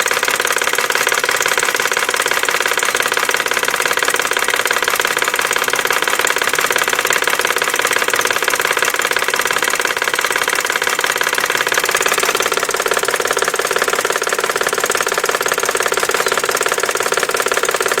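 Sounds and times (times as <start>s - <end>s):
car engine idling: 0.0s - 18.0s
fast engine knocking: 0.0s - 18.0s.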